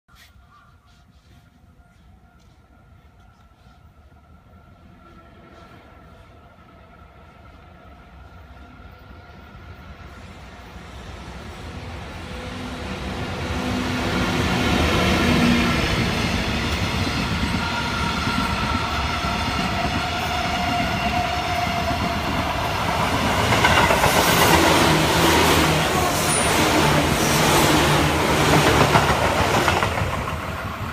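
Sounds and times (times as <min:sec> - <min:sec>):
train rumble and motor whine: 0:04.0 - 0:30.9.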